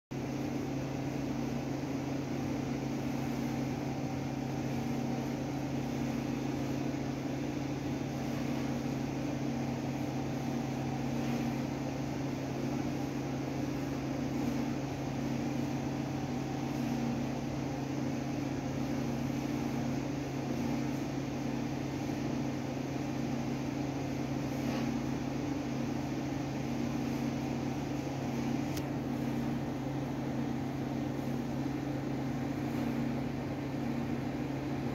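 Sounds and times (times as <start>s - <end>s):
low machine hum: 0.1s - 34.9s.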